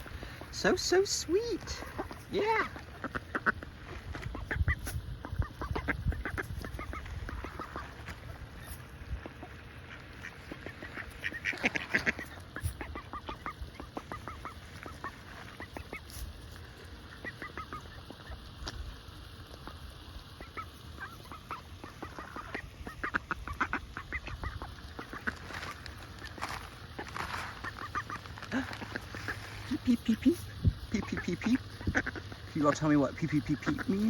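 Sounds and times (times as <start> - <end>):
bills pecking at bird food: 0.0 - 34.0
ducks calling: 0.0 - 34.0.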